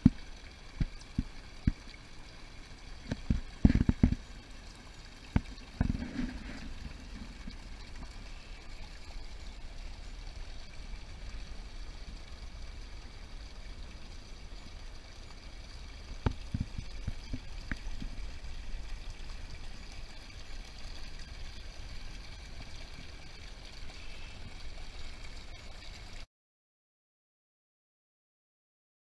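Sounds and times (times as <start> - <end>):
stream trickling and splashing: 0.0 - 26.3.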